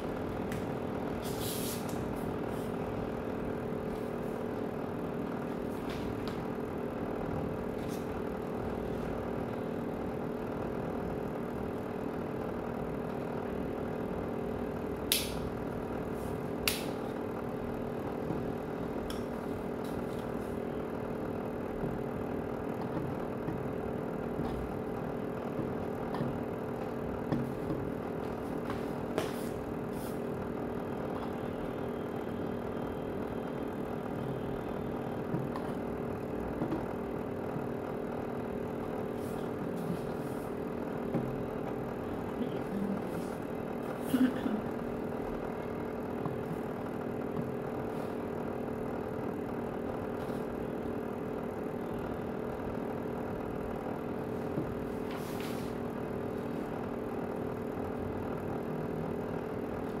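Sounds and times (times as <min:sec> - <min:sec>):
steady hum: 0:00.0 - 1:00.0.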